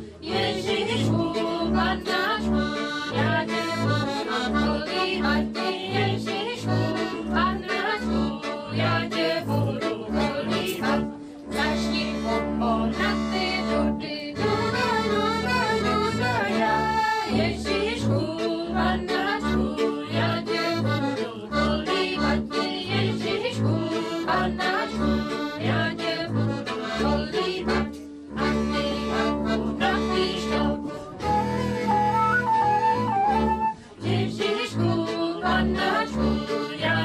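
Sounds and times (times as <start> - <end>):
accordion melody: 0.0 - 37.0
clarinet: 0.0 - 37.0.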